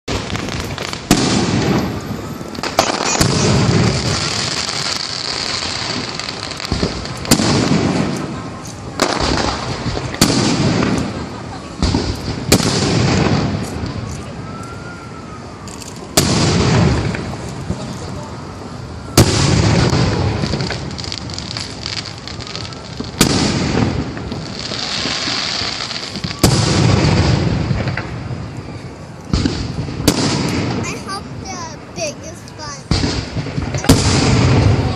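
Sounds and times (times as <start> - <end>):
fireworks booming and crackling: 0.0 - 34.9.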